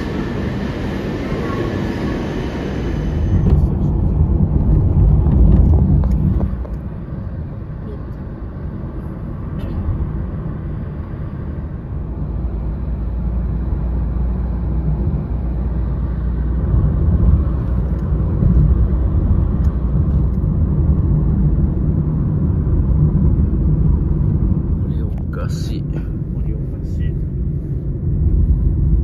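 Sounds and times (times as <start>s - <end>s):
low road rumble inside vehicle: 0.0s - 29.0s.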